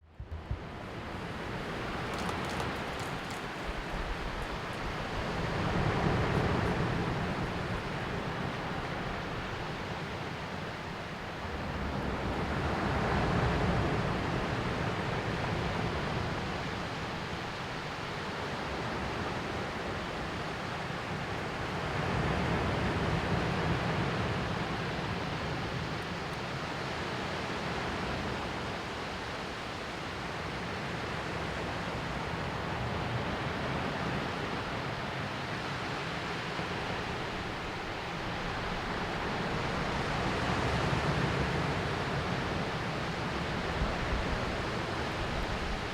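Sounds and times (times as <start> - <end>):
sea waves washing ashore: 0.3 - 45.9.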